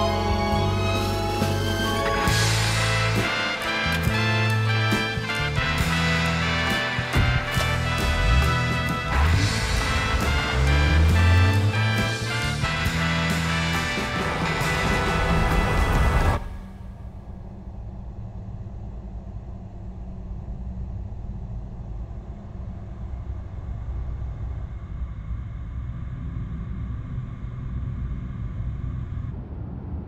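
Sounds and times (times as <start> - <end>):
car engine and tyres rumbling: 0.0 - 29.7.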